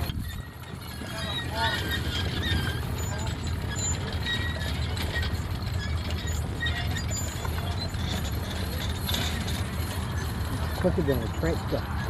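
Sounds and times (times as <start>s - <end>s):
harness chains clinking: 0.0s - 12.0s
horse hooves: 0.0s - 12.0s.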